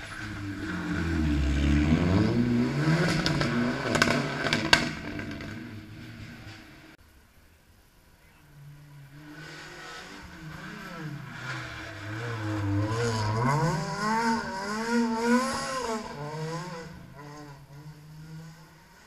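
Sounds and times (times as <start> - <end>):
rally car engine revving: 0.0 - 7.0, 8.5 - 19.0.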